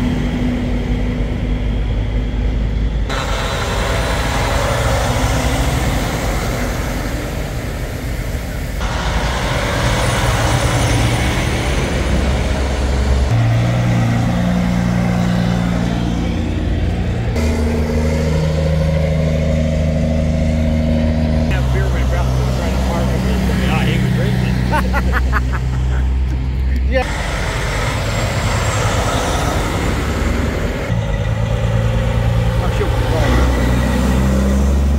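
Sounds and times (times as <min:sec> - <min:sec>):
steady engine drone: 0:00.0 - 0:34.9
trucks rolling past: 0:00.0 - 0:34.9.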